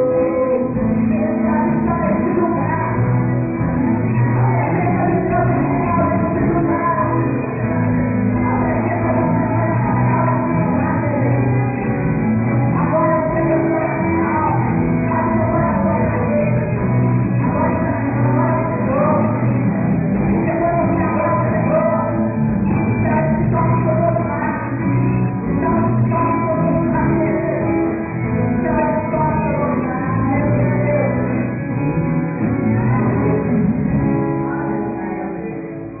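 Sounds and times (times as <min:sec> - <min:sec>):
muffled live band with singing: 0:00.0 - 0:36.0.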